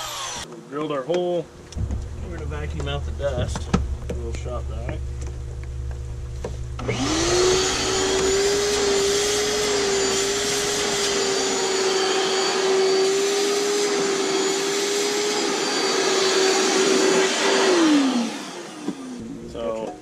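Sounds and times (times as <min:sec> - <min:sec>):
shop vacuum motor whine: 0:00.0 - 0:00.5, 0:01.6 - 0:19.6.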